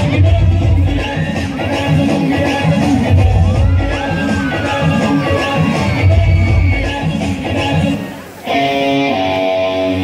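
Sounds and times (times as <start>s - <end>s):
loud dance music with heavy bass: 0.0s - 10.0s.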